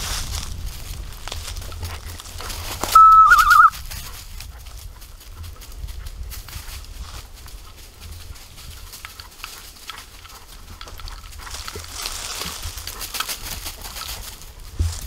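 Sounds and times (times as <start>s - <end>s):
footsteps crunching dry leaves: 0.0s - 15.0s
low wind rumble on microphone: 0.0s - 15.0s.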